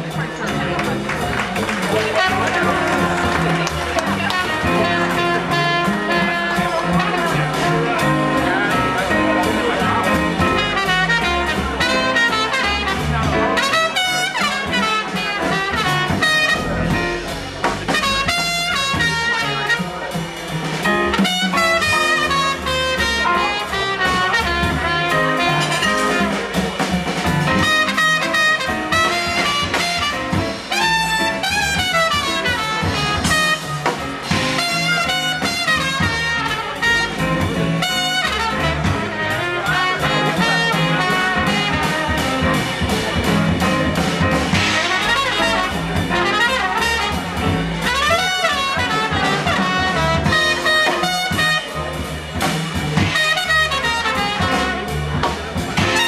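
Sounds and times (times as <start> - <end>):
acoustic bass: 0.0 - 56.0
drums: 0.0 - 56.0
piano: 0.0 - 56.0
horn lines: 1.3 - 56.0.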